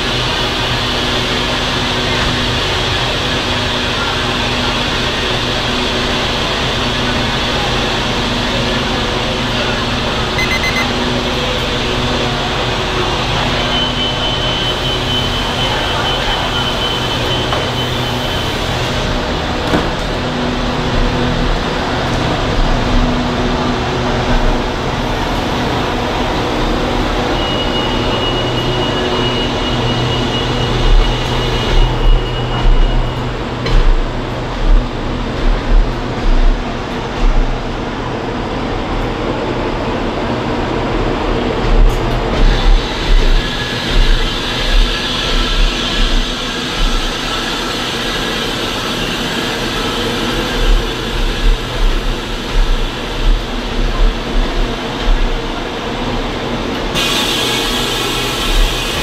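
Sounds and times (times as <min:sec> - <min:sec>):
steady mechanical hum: 0:00.0 - 0:59.0
train wheels rumbling: 0:00.0 - 0:59.0.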